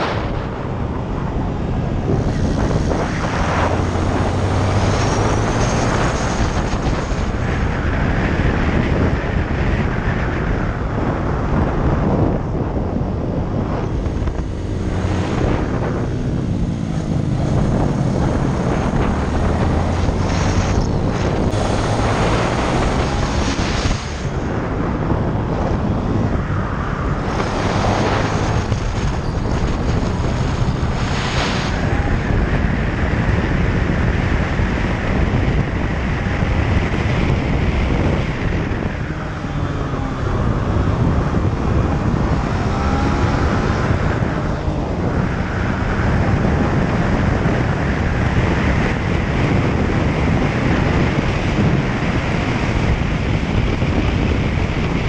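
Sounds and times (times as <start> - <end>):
motorcycle engine running hard: 0.0 - 55.0
wind noise on microphone: 0.0 - 55.0.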